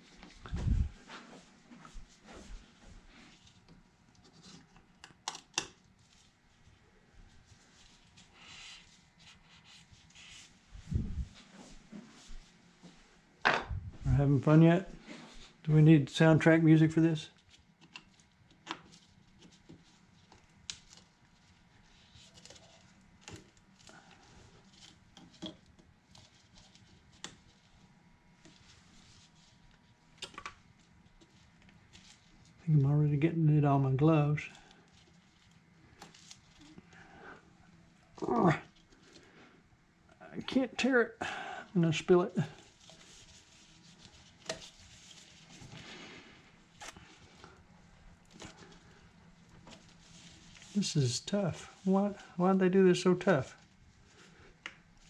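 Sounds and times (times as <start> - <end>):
soft rustling of gloved hands: 0.0 - 4.9, 5.8 - 55.0.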